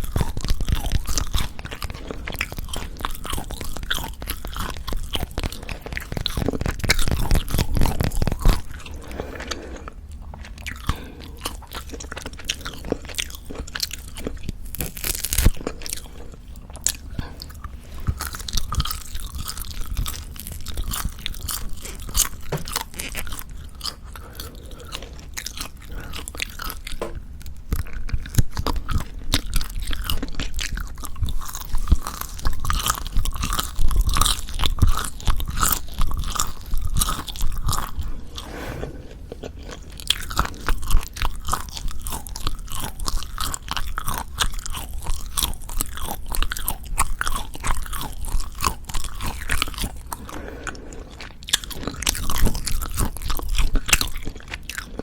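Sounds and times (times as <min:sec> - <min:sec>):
chewing crunchy jerky: 0:00.0 - 0:55.0.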